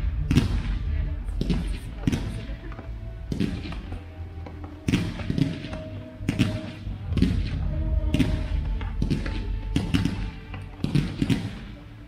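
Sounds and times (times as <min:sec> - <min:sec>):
fireworks bangs: 0:00.0 - 0:02.7, 0:04.8 - 0:11.9
music: 0:00.0 - 0:12.0.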